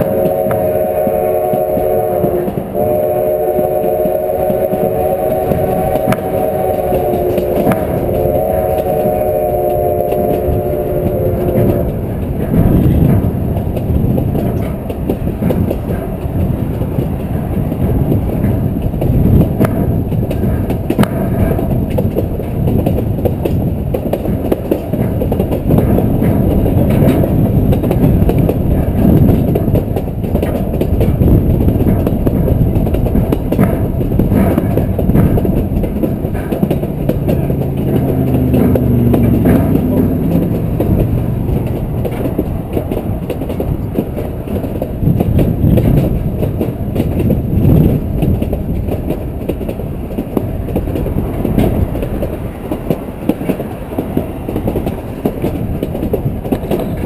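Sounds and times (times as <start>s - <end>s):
clicks at rail joints: 0.0s - 57.0s
model train wheels rumbling: 0.0s - 57.0s.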